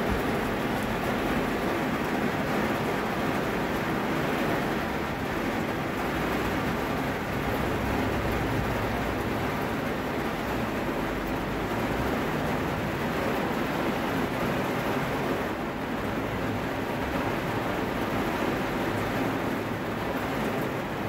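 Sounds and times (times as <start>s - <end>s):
heavy rain on a car: 0.0s - 21.0s.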